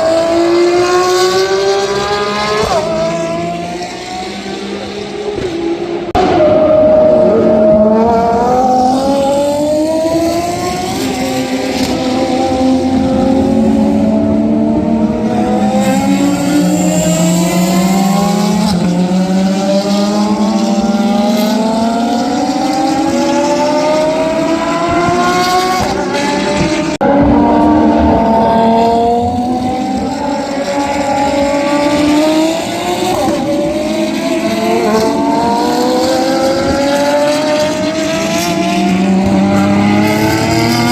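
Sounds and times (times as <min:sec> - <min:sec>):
racing car engine accelerating: 0:00.0 - 0:40.9.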